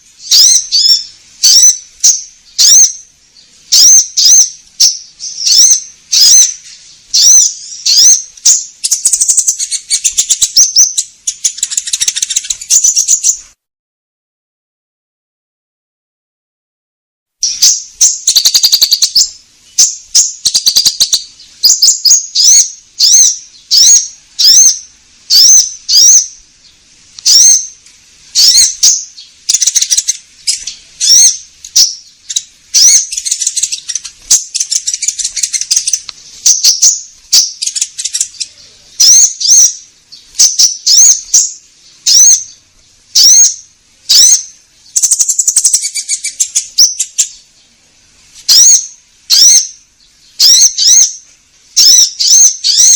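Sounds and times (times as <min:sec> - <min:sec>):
buzzy bird trill: 0:00.0 - 0:13.6, 0:17.4 - 0:47.8, 0:48.4 - 0:52.9
bird whistled chirps: 0:00.2 - 0:03.1, 0:03.7 - 0:13.5, 0:17.4 - 0:26.4, 0:27.2 - 0:27.8, 0:28.4 - 0:39.8, 0:40.4 - 0:42.6, 0:43.2 - 0:47.4, 0:48.5 - 0:49.8, 0:50.4 - 0:51.2, 0:51.8 - 0:52.9.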